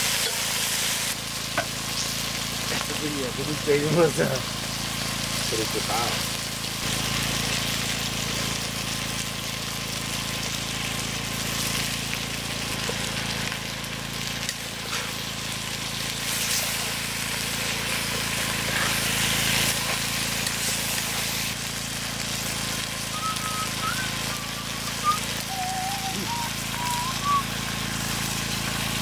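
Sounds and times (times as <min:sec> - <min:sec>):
pot simmering hiss: 0:00.0 - 0:29.0.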